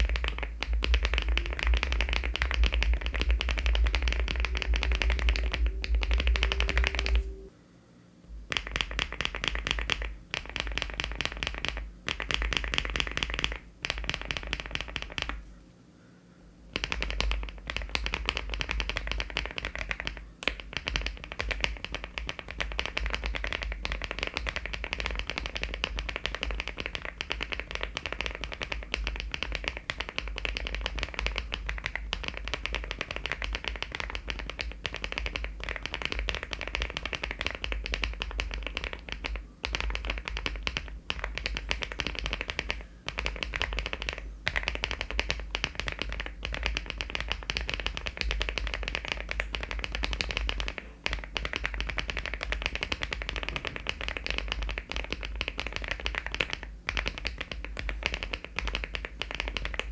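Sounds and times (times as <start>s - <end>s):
mechanical keyboard typing: 0.0s - 7.4s, 8.5s - 15.4s, 16.8s - 59.9s.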